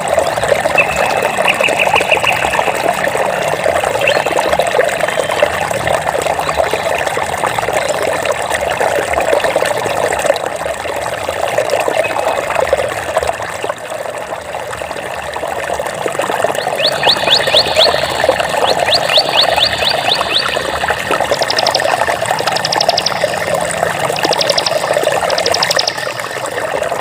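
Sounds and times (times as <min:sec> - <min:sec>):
stream water babbling over stones: 0:00.0 - 0:27.0.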